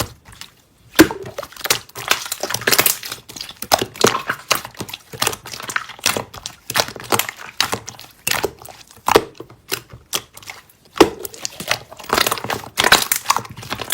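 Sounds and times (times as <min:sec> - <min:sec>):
slime squeezed crackling: 0:00.0 - 0:13.9.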